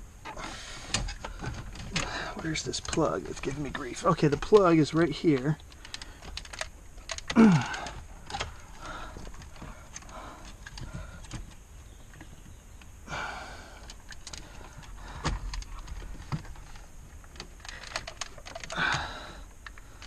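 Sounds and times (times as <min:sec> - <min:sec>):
rustle: 0:00.0 - 0:20.0.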